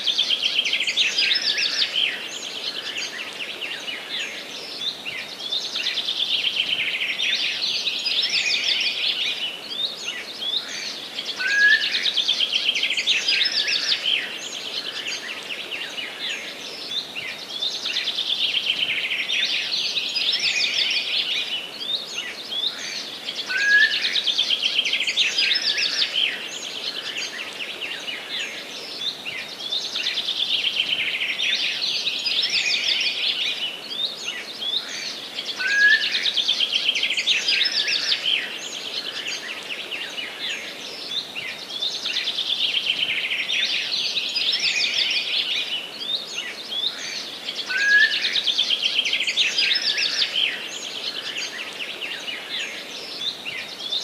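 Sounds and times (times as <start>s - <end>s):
faint steady hiss: 0.0s - 54.0s
songbirds singing: 0.0s - 54.0s.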